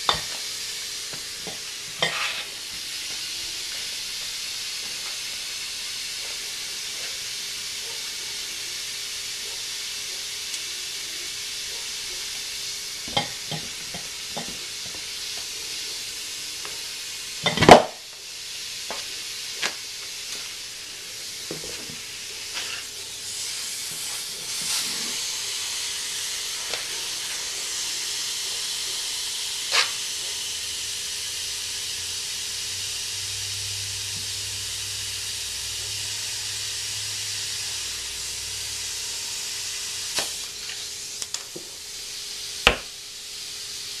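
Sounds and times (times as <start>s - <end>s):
compressed air hissing into tire: 0.0s - 44.0s.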